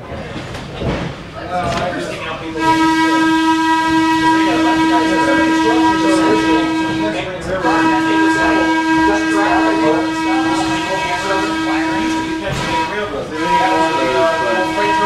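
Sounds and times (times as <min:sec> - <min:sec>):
train coach running noise: 0:00.0 - 0:15.0
train air whistle blast: 0:02.6 - 0:15.0.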